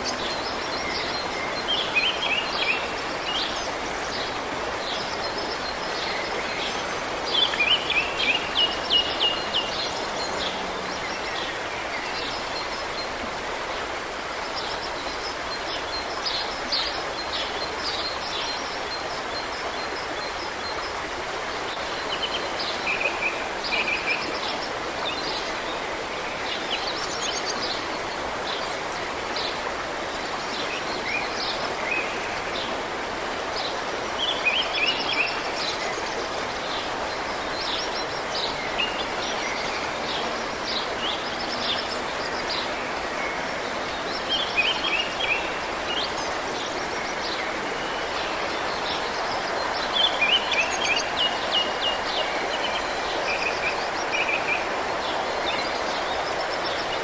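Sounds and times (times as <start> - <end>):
songbirds chirping and trilling: 0.0 - 57.0
stream rushing over rocks: 0.0 - 57.0.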